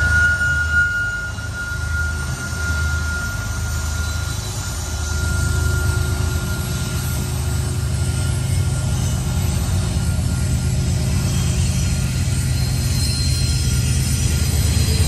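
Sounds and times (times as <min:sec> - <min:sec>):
high whine: 0:00.0 - 0:15.0
locomotive engines rumbling: 0:00.0 - 0:15.0.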